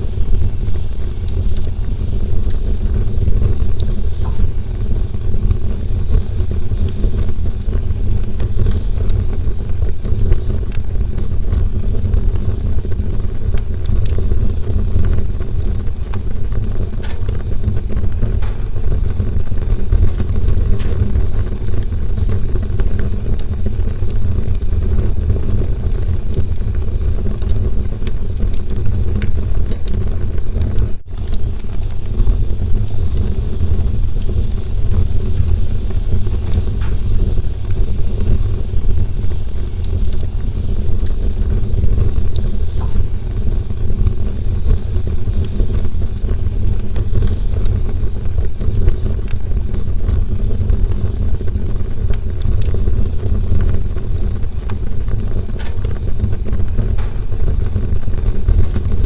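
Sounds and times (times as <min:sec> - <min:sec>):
campfire burning: 0:00.0 - 0:59.0
fire crackles and pops: 0:00.0 - 0:59.0.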